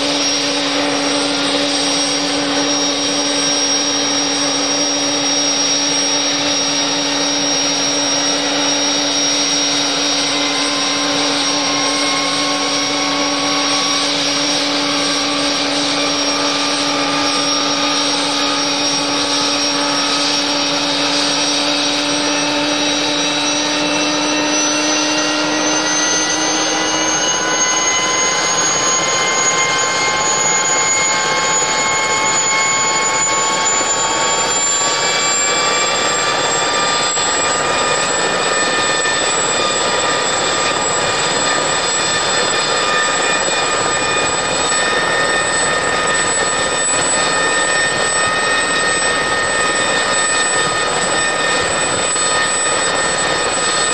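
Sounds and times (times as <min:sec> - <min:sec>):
turbine engine whine: 0:00.0 - 0:53.9.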